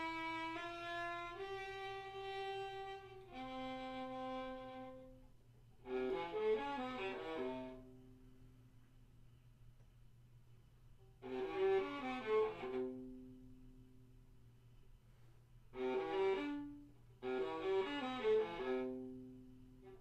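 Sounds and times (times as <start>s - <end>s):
viola bowed notes: 0.0s - 8.6s, 11.0s - 14.2s, 15.1s - 20.0s.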